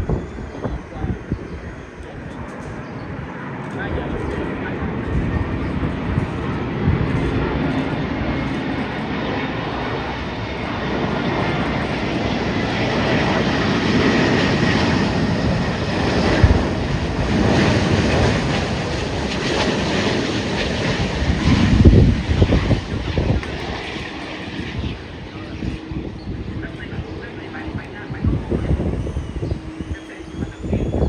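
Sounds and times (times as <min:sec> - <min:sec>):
jet engine roar: 0:00.0 - 0:31.0
wind rumble on microphone: 0:00.0 - 0:31.0.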